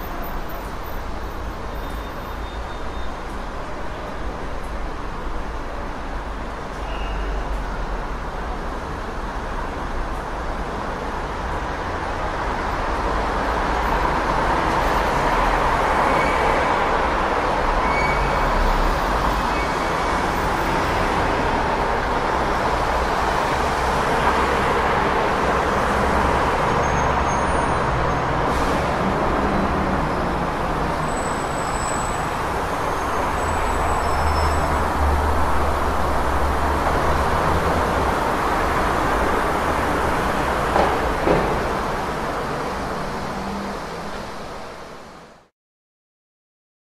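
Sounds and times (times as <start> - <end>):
passing cars: 3.4 - 45.4.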